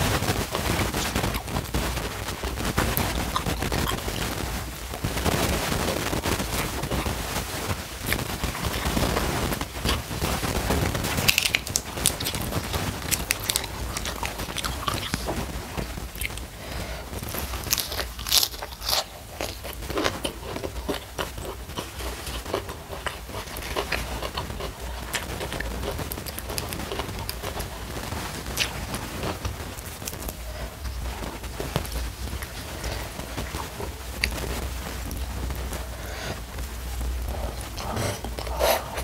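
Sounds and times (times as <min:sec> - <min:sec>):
chewing and crunching food: 0:00.0 - 0:39.0.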